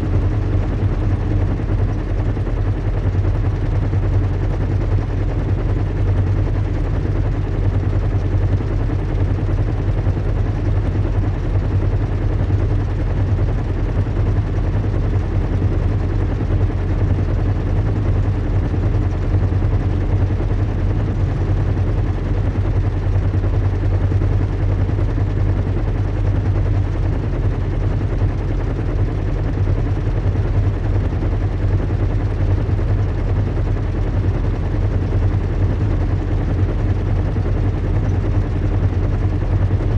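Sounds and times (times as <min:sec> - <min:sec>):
low engine hum and rumble: 0:00.0 - 0:39.9.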